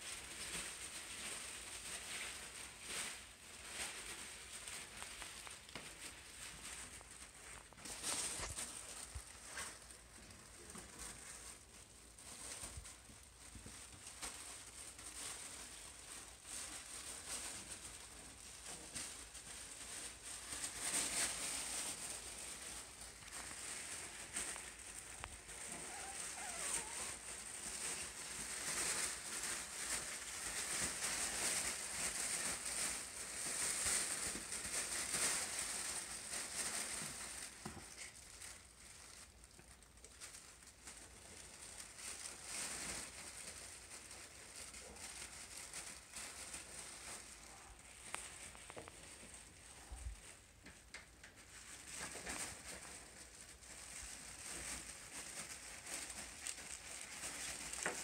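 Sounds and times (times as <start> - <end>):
pads and tunnel crinkling: 0.0 - 58.0.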